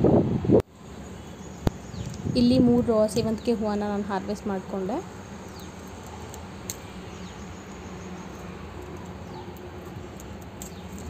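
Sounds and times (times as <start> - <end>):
steady low hum and hiss: 0.0 - 11.0.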